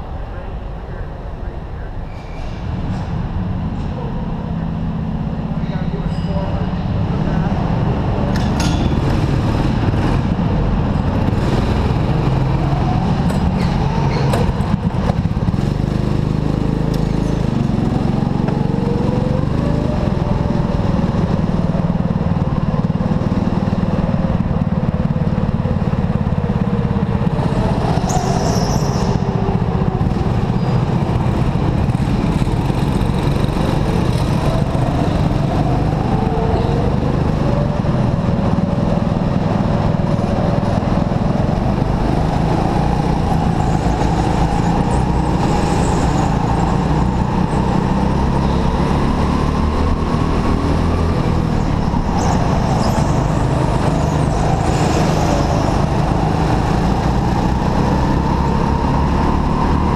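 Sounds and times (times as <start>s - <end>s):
go-kart engine running hard: 2.6s - 59.9s.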